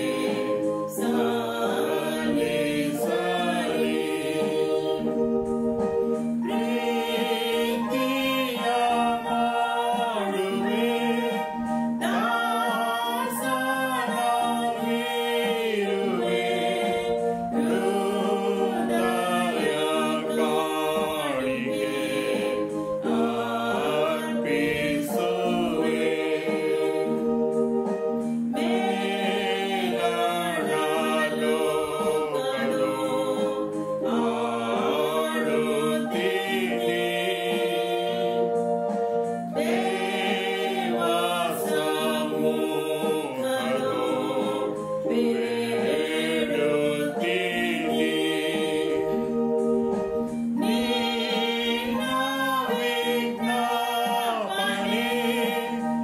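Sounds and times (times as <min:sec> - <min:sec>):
woman singing a hymn: 0:00.0 - 0:05.4, 0:06.4 - 0:27.5, 0:28.5 - 0:38.9, 0:39.5 - 0:49.6, 0:50.3 - 0:56.0
electronic keyboard chords: 0:00.0 - 0:56.0.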